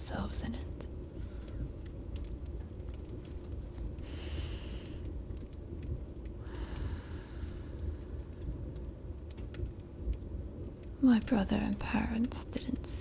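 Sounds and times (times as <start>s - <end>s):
fireplace crackling: 0.0s - 13.0s
rain: 0.0s - 13.0s.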